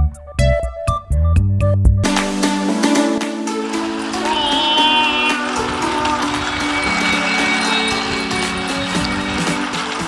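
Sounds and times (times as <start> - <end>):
upbeat electronic music: 1.0 - 10.0.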